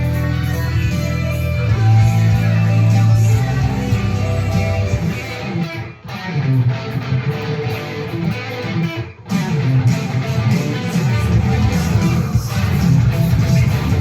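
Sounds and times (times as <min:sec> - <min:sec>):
guitar plucked and strummed: 0:00.0 - 0:14.0.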